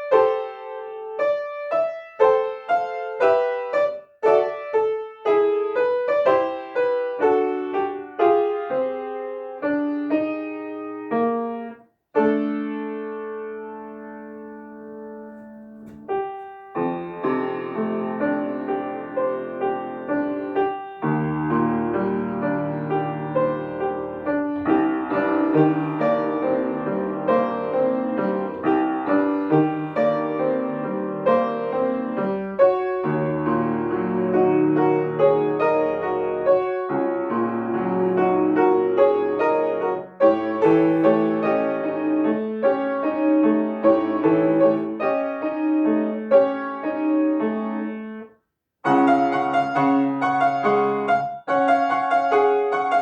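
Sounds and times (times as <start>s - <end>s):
solo piano slow piece: 0.0s - 53.0s.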